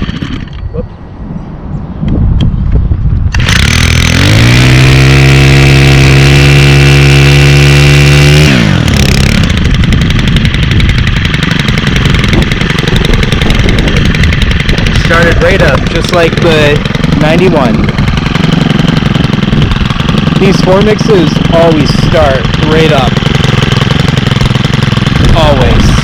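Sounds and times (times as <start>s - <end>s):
small engine revving: 0.0s - 0.6s, 3.3s - 26.0s.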